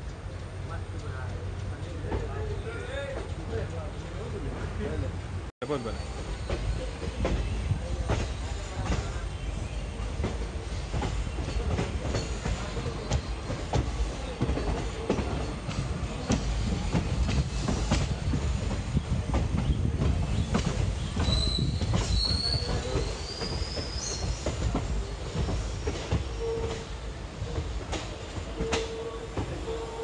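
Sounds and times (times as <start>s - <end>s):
train rumbling on track: 0.0s - 30.0s.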